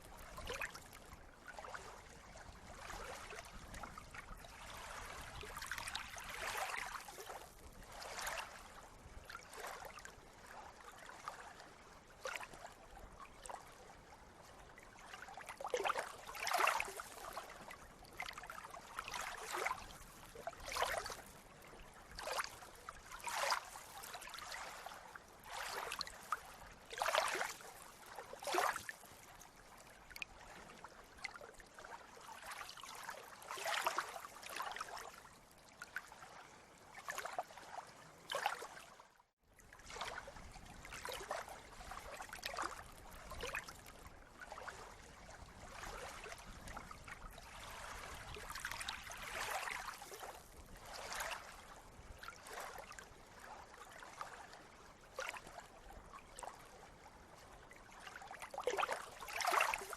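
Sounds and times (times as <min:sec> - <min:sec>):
water lapping and splashing: 0:00.0 - 0:59.9.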